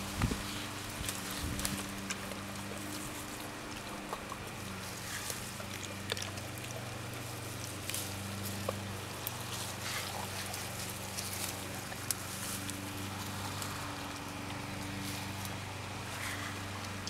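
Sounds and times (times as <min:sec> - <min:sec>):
dogs chewing berries: 0:00.0 - 0:17.0
leaves rustling: 0:00.0 - 0:17.0
steady low hum: 0:00.0 - 0:17.0.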